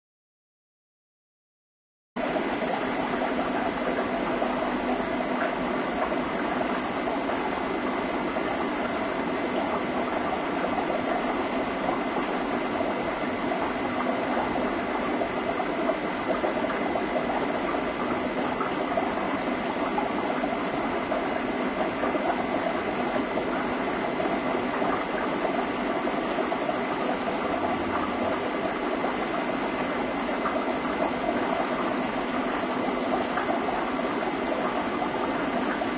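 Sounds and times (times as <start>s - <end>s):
aquarium filter bubbling water: 2.2s - 35.9s
pump motor hum: 2.2s - 35.9s.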